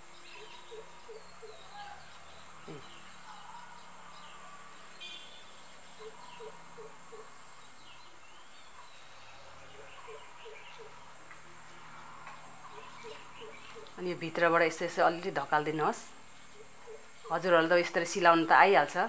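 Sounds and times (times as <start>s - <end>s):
birds calling low notes: 0.0s - 19.0s.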